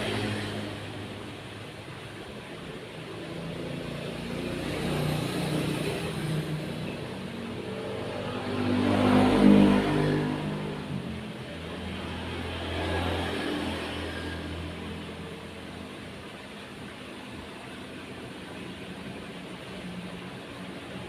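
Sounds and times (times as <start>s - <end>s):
passing motor traffic: 0.0s - 21.0s.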